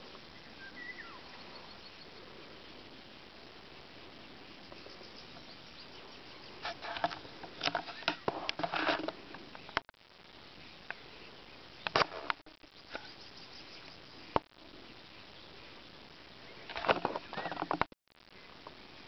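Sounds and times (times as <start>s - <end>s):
faint steady hiss: 0.0s - 19.0s
crackling and rustling: 1.3s - 19.0s.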